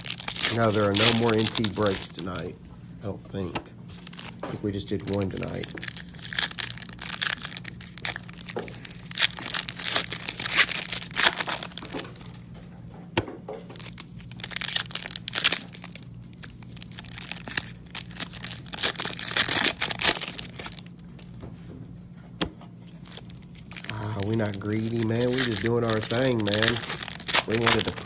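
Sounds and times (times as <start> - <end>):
wrappers tearing and crinkling: 0.0 - 2.5, 3.9 - 12.4, 13.8 - 21.0, 22.9 - 28.0.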